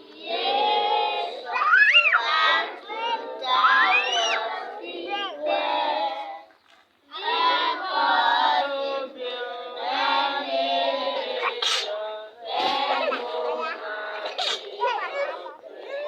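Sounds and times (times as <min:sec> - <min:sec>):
children singing together: 0:00.0 - 0:06.5, 0:07.1 - 0:16.0.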